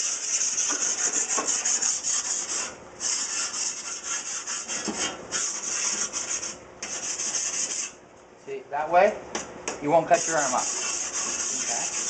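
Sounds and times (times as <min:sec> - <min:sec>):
file rubbing glass edge: 0:00.0 - 0:08.0, 0:10.1 - 0:12.0.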